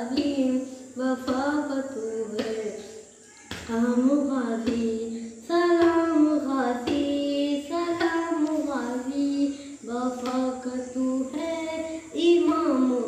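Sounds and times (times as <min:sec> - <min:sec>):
boy singing a devotional chant: 0:00.0 - 0:13.0.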